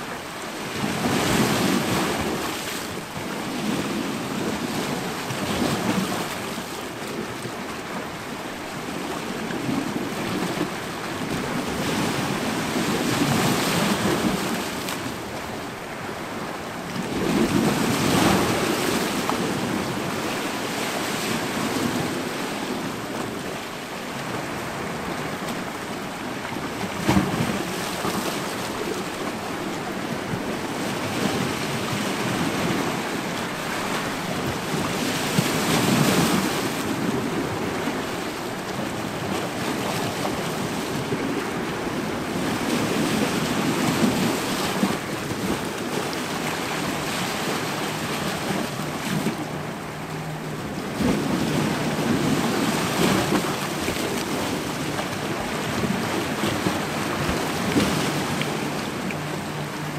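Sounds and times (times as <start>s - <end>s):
waves breaking over rocks: 0.0s - 59.9s.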